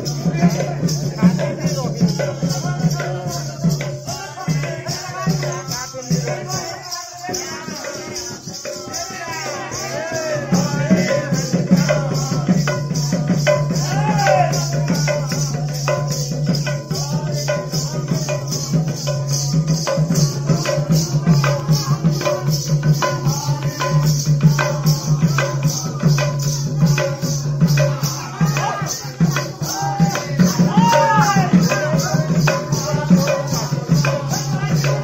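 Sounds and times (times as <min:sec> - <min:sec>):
hand drum: 0:00.0 - 0:35.0
jingling percussion: 0:00.0 - 0:35.0
voices singing and calling: 0:00.0 - 0:35.0.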